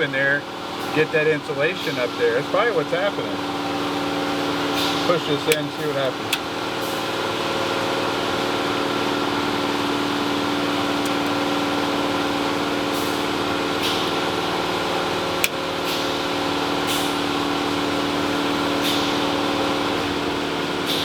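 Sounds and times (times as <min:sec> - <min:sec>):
furnace motor hum: 0:00.0 - 0:21.0.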